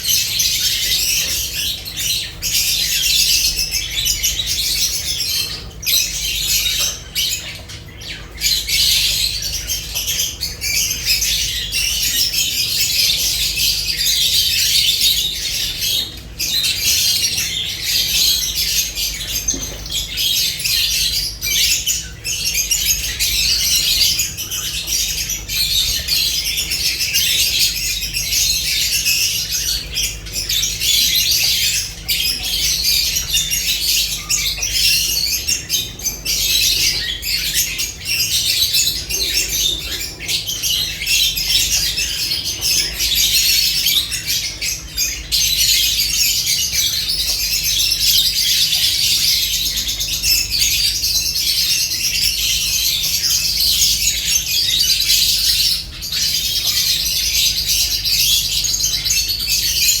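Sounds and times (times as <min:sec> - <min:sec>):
lovebirds chattering and squawking: 0:00.0 - 1:00.0.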